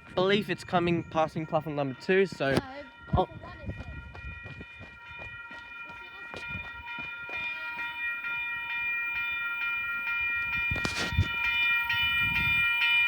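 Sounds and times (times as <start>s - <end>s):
train high-pitched ringing tones: 0.0s - 13.0s.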